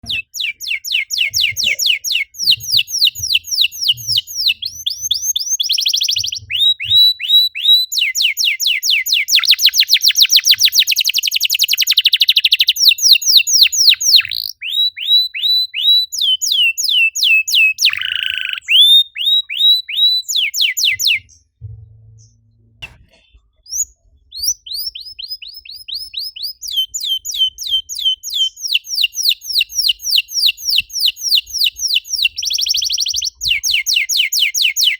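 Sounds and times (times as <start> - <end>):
canary singing trills: 0.0 - 21.6, 22.2 - 34.9.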